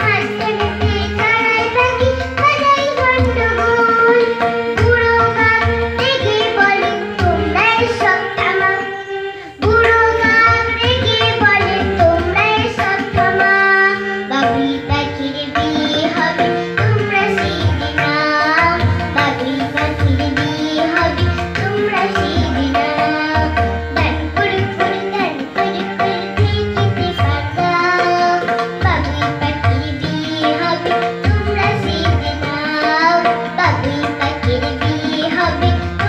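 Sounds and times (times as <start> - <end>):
girl singing: 0.0 - 36.0
harmonium: 0.0 - 36.0
tabla: 0.0 - 36.0.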